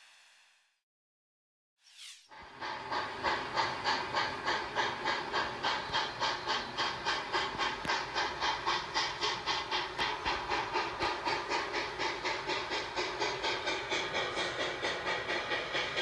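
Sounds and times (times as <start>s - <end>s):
steam hissing: 0.0s - 0.6s, 2.3s - 16.0s
steam locomotive exhaust chuffing: 2.3s - 16.0s.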